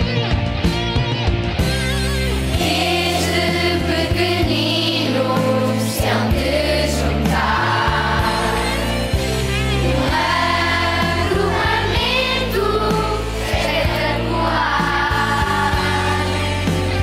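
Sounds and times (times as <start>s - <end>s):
instrumental backing with bass notes: 0.0s - 17.0s
group of voices singing: 2.5s - 16.6s.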